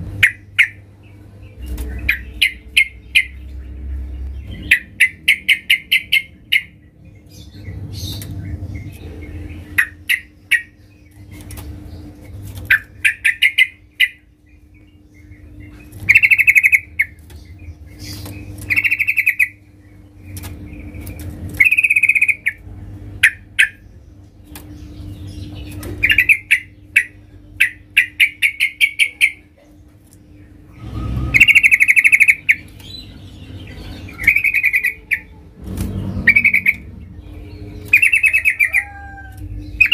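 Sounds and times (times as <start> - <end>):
bird chattering calls: 0.1 - 1.2, 1.8 - 3.8, 4.4 - 6.9, 7.5 - 14.3, 15.2 - 22.6, 23.2 - 23.9, 24.7 - 29.8, 30.4 - 39.9.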